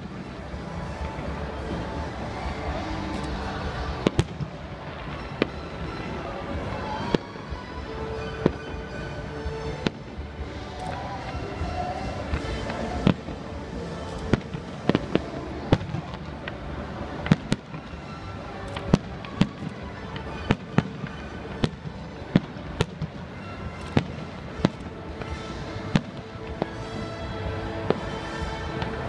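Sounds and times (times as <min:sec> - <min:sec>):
music: 0:00.0 - 0:29.0.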